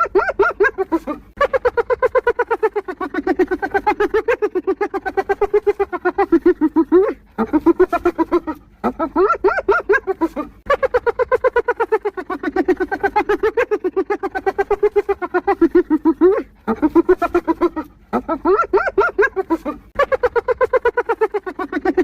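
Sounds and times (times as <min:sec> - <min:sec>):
hyena laughing: 0:00.0 - 0:22.0.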